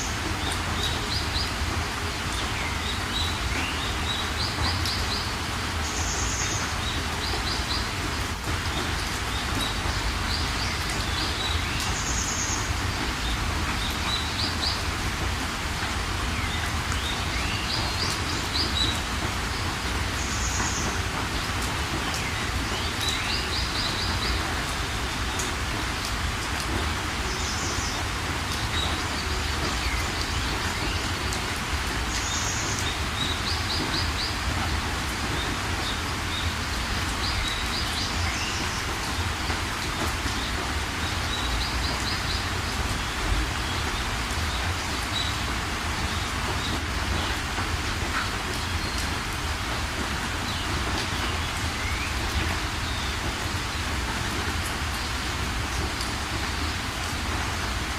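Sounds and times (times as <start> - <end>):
steady rain: 0.0 - 57.9.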